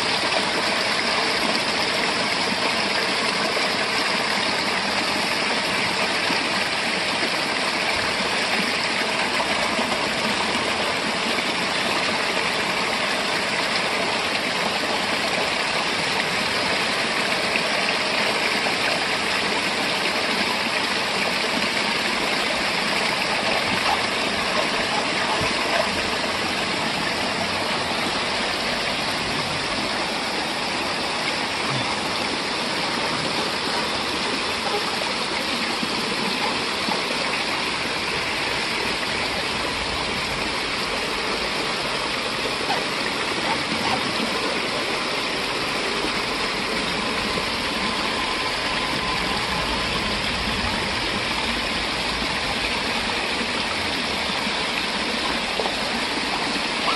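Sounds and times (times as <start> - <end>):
waterfall rushing over boulders: 0.0 - 56.9.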